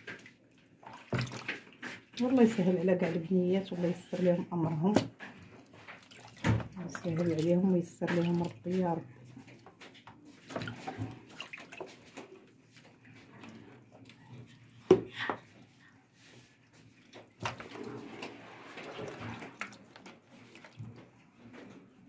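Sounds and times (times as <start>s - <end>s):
wet squelching of hands in marinade: 0.0s - 14.8s, 16.2s - 21.2s.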